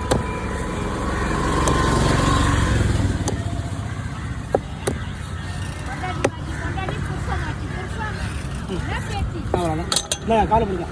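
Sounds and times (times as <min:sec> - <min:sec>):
engine rumbling: 0:00.0 - 0:10.9.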